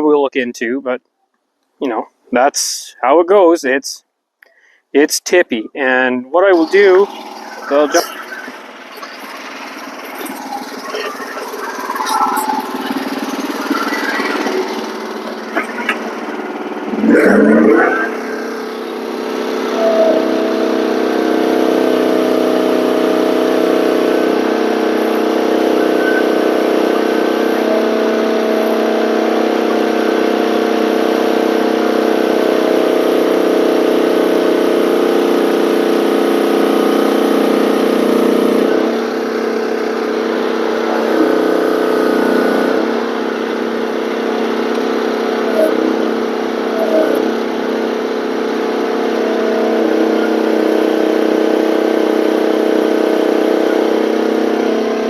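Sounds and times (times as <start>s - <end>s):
excavator engine under load: 6.6s - 55.0s.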